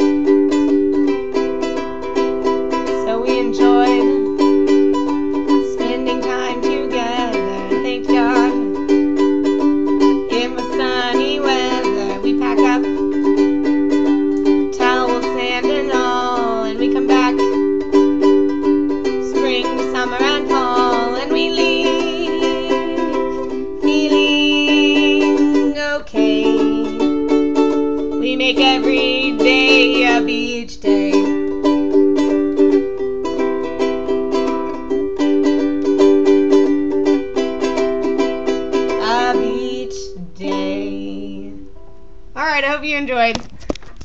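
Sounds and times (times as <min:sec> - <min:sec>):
person singing: 0:00.0 - 0:41.8
ukulele strumming chords: 0:00.0 - 0:44.0.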